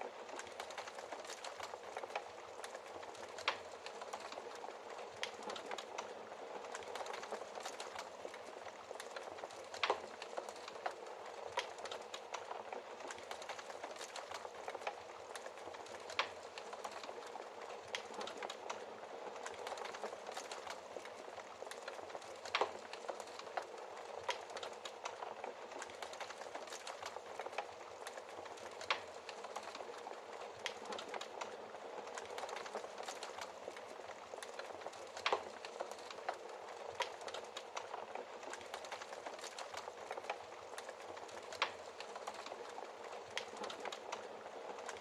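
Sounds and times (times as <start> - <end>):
wood fire hissing and crackling: 0.0 - 45.0.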